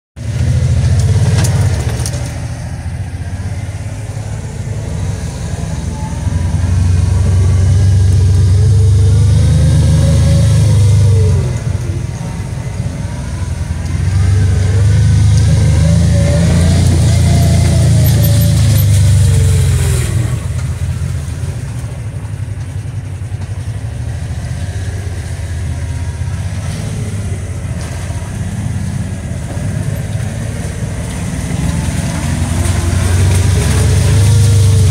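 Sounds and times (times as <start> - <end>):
utility vehicle engine revving: 0.2 - 34.9.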